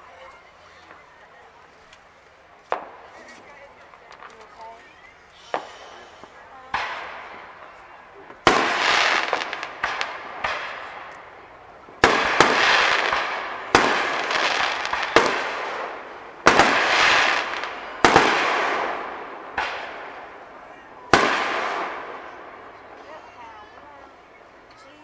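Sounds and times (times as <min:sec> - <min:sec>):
fireworks crackling hiss: 0:00.0 - 0:24.4
fireworks bangs: 0:02.5 - 0:24.4.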